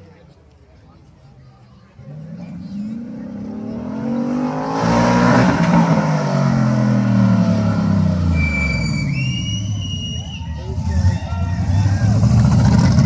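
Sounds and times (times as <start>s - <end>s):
rally car engine passing by: 1.9s - 13.0s.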